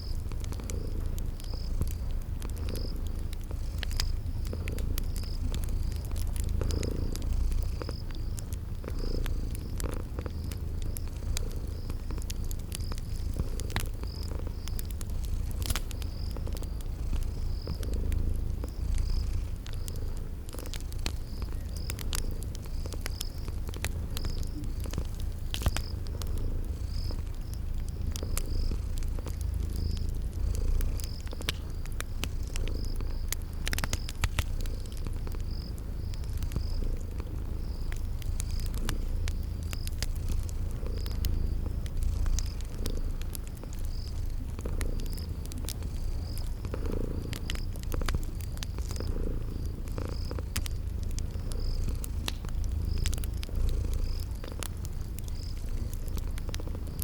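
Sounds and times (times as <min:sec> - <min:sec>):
cat purring: 0:00.0 - 0:57.0
crickets chirping: 0:00.0 - 0:57.0
wood fire crackling: 0:00.0 - 0:57.0.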